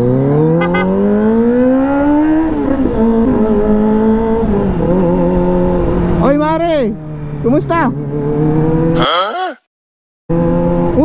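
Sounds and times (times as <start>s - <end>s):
motorcycle engine revving: 0.0s - 9.0s, 10.3s - 11.0s.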